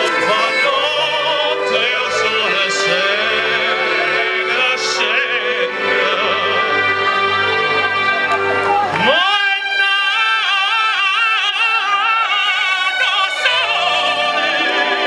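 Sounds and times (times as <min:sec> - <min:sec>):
opera singer with vibrato: 0:00.0 - 0:07.4, 0:08.9 - 0:15.0
sustained instrumental accompaniment: 0:00.0 - 0:15.0.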